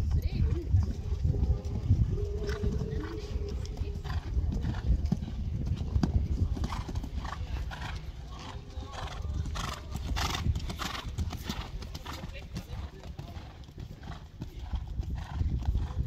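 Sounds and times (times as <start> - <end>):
horse hoofbeats on sand: 0.0 - 16.0.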